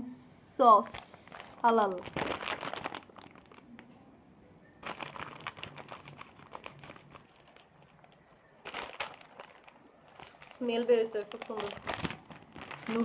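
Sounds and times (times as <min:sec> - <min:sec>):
plastic packet crinkling: 0:00.8 - 0:04.0, 0:04.8 - 0:13.0.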